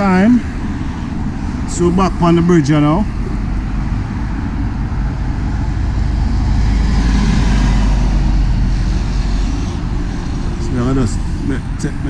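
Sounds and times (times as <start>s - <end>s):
road traffic passing: 0.0s - 12.0s
vehicle passing: 0.0s - 12.0s.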